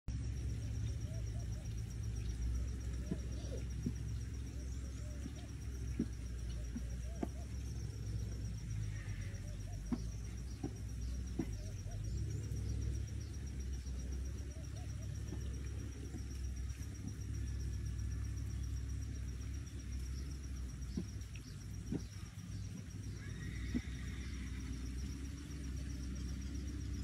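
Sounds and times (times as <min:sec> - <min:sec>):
insect high trill: 0:00.1 - 0:27.0.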